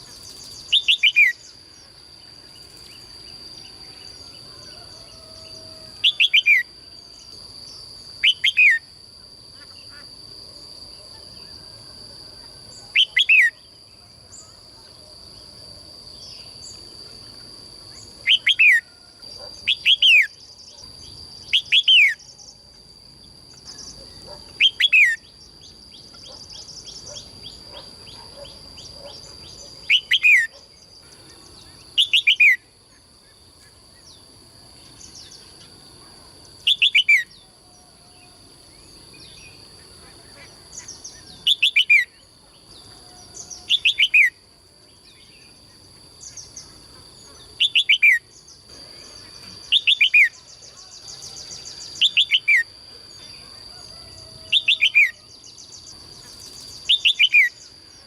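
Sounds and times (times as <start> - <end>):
songbird calling: 0.0 - 8.9, 12.4 - 15.1, 16.2 - 22.6, 23.5 - 34.3, 36.6 - 44.4, 46.2 - 58.0.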